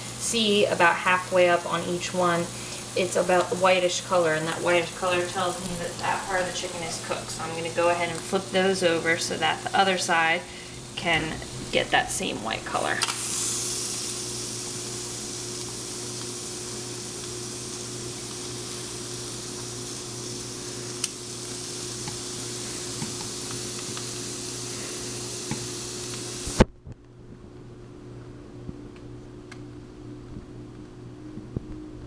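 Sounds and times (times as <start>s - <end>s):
chicken sizzling on grill pan: 0.0s - 26.6s.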